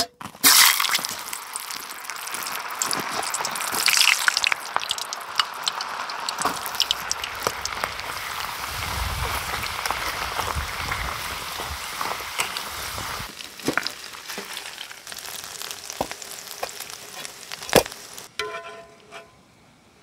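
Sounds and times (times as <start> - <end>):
food deep-frying in oil: 0.3 - 18.3.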